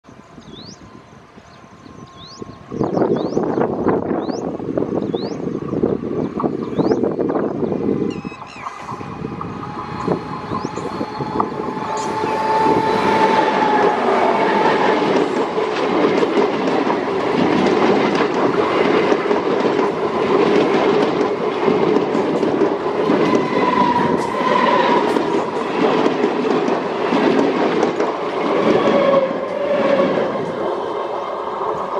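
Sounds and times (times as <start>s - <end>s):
train wheels rumbling on rails: 0.1s - 31.9s.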